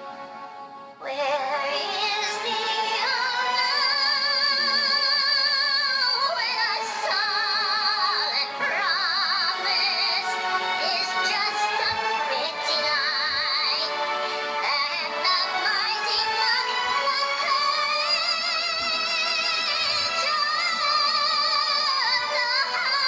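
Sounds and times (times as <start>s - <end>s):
synthetic operatic singing: 1.0s - 23.0s.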